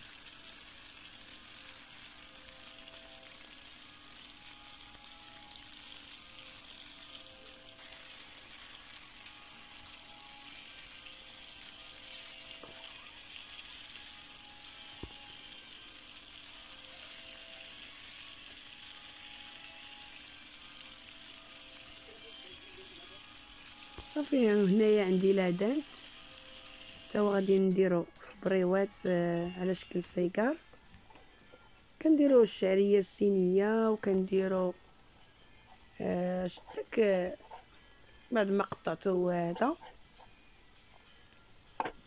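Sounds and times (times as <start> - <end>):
fish frying in hot oil: 0.0 - 42.0.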